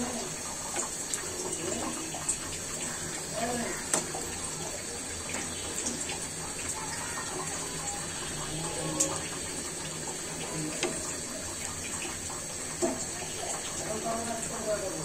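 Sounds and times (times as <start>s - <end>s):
fritters sizzling in hot oil: 0.0s - 15.0s.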